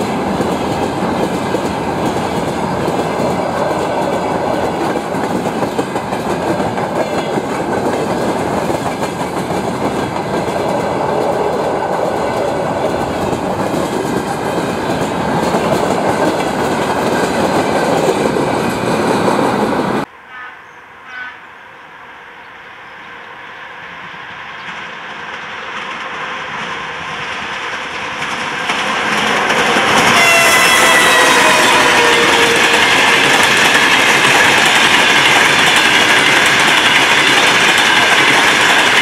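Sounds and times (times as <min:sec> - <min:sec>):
train wheels on rails: 0:00.0 - 0:20.1, 0:23.3 - 0:39.0.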